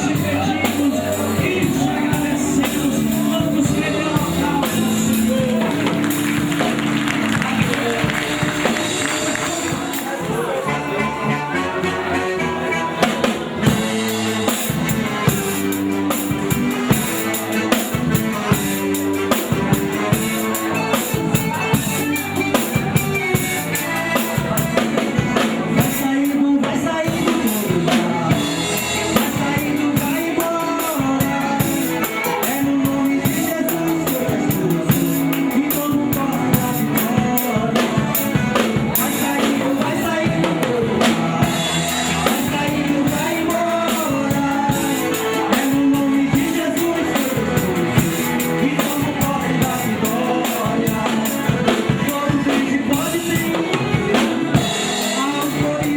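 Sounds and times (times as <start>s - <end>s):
drum kit beat: 0.0s - 55.9s
live band playing instrumental: 0.0s - 55.9s.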